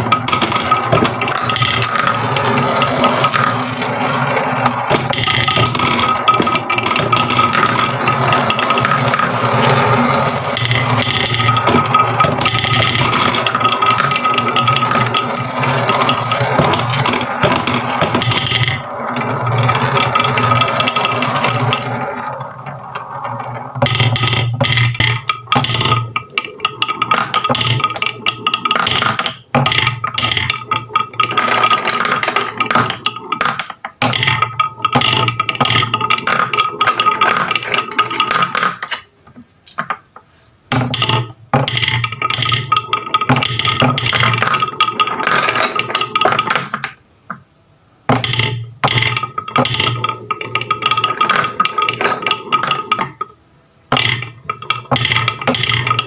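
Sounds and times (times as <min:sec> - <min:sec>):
marbles rolling down wooden run: 0:00.0 - 0:39.1, 0:40.7 - 0:47.0, 0:48.1 - 0:56.0.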